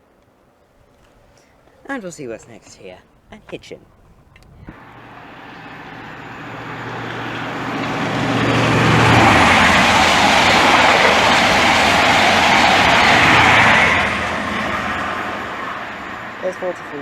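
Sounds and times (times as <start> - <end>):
diesel train passing: 0.0 - 17.0
wheel-on-rail noise: 0.0 - 17.0.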